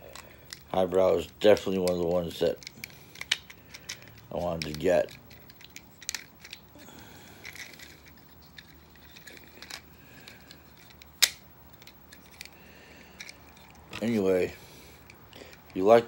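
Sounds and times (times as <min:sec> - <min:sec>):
plastic toy parts clicking: 0:00.0 - 0:14.2, 0:15.0 - 0:15.8.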